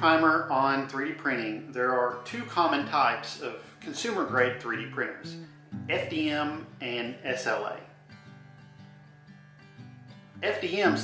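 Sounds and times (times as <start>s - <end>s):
acoustic guitar notes: 0.0s - 11.0s.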